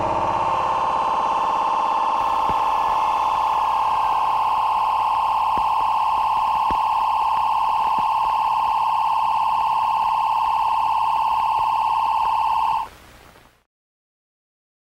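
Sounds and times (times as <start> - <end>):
high electronic tone: 0.0 - 12.9.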